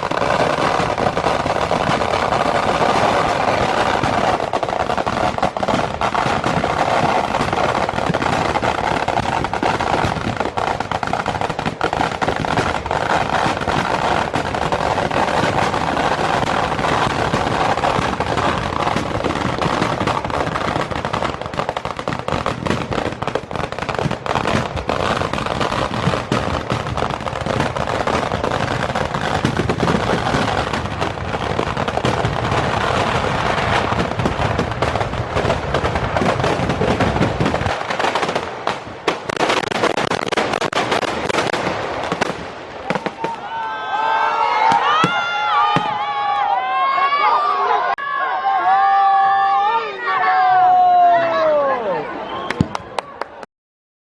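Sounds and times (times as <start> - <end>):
fireworks banging and crackling: 0.0 - 46.5, 52.4 - 53.4.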